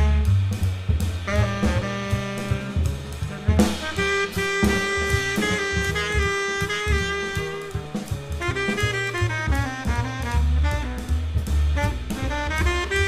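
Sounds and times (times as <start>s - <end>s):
drum kit: 0.0s - 13.0s
jazz horn lead: 0.0s - 13.0s.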